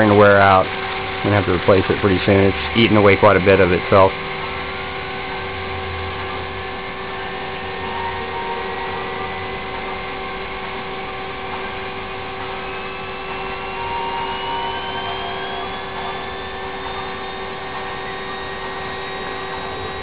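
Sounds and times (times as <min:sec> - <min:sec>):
faint rising whine: 0:00.0 - 0:20.0
spinning rotor whir and hum: 0:00.0 - 0:20.0.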